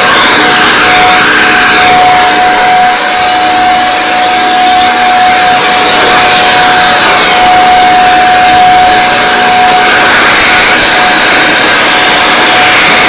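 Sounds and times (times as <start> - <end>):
motor whine: 0.0 - 13.0
pressure washer spraying water: 0.0 - 13.0.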